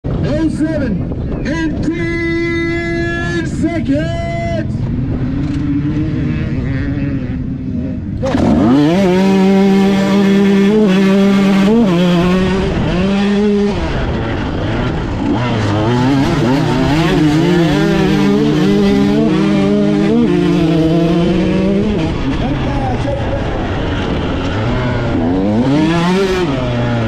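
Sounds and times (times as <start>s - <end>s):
dirt bike accelerating: 0.1s - 27.0s
dirt bike engines running: 0.1s - 27.0s.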